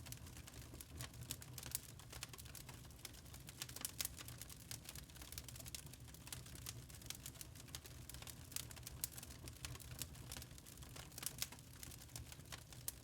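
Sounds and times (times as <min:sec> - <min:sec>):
low rumble of burning logs: 0:00.0 - 0:13.0
wood fire crackling: 0:00.0 - 0:13.0.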